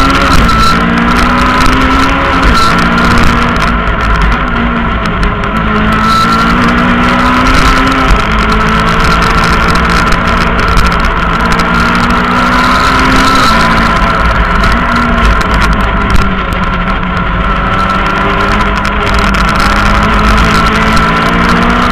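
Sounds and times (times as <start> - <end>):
high whine: 0.0 - 21.9
rally car engine revving: 0.0 - 21.9.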